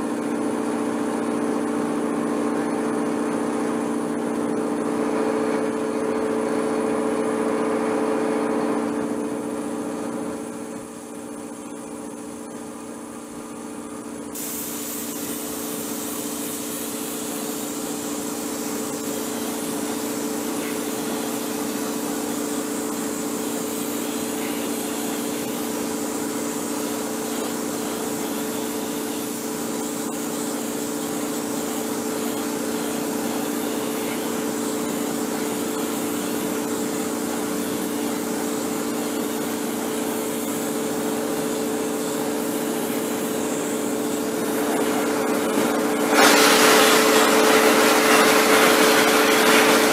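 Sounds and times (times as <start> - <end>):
spray gun hissing: 8.8 - 49.9.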